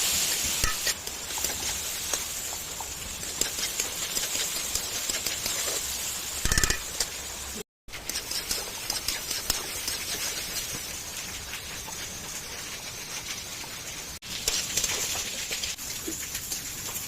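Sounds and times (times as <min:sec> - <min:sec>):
okra sizzling in a pan: 0:00.0 - 0:17.0.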